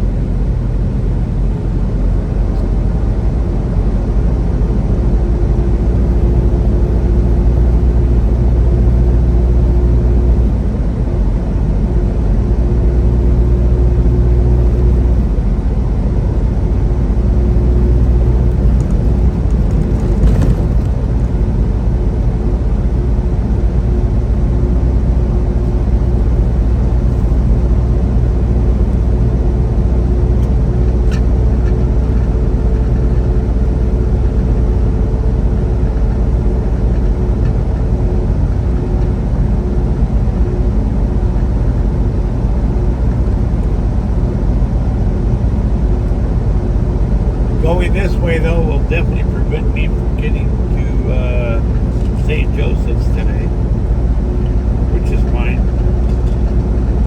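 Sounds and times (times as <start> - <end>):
road noise: 0.0 - 57.0
truck diesel engine cruising: 0.0 - 57.0.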